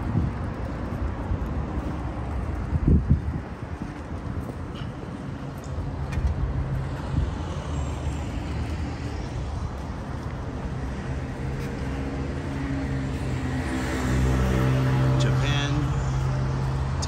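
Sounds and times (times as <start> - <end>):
motor vehicle engine humming: 0.0 - 17.0
road traffic rumble: 0.0 - 17.0.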